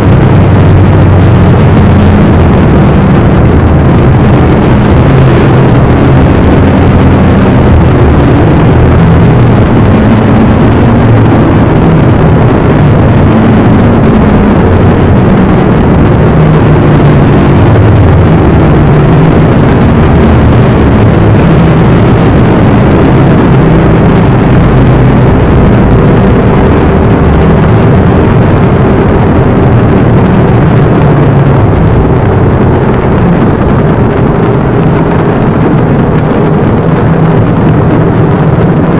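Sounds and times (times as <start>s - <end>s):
loud harsh noise: 0.0s - 38.9s
low droning hum: 0.0s - 38.9s.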